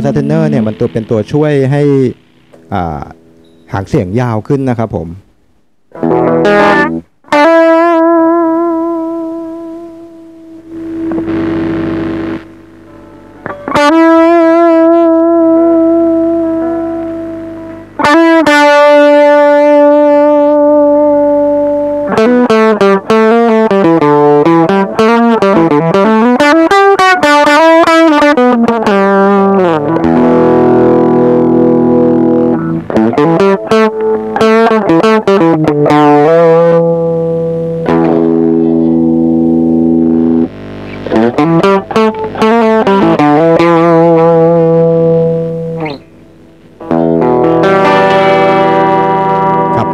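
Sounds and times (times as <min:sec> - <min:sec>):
compressed electric guitar: 0:00.0 - 0:49.9.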